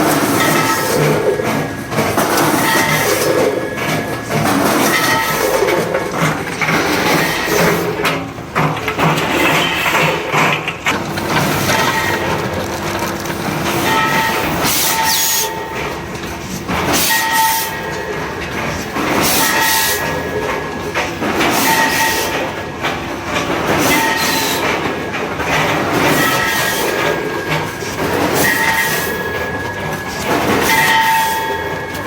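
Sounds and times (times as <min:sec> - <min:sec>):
packaging machine running: 0:00.0 - 0:32.0.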